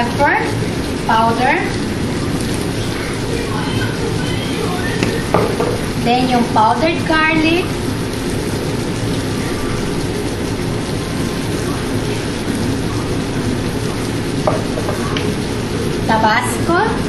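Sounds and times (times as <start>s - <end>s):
liver sizzling in a pan: 0.0s - 17.0s.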